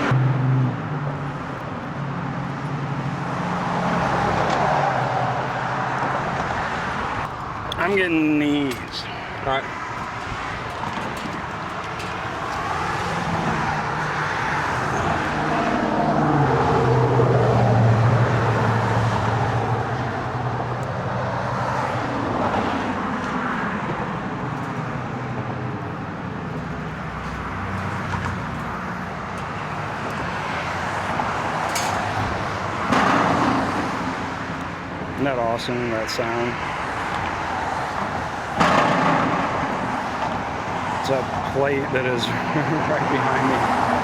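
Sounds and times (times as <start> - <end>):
road traffic passing: 0.0 - 44.0
vehicle engine hum: 0.0 - 44.0.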